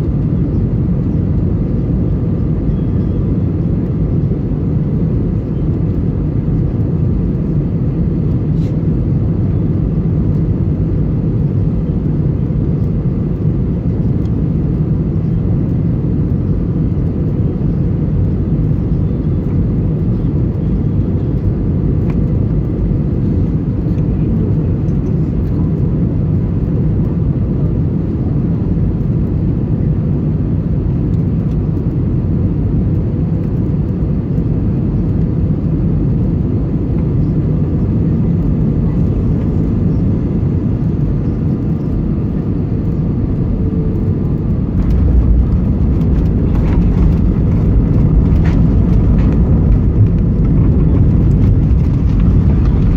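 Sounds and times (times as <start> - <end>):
airliner engine rumble in cabin: 0.0 - 52.9.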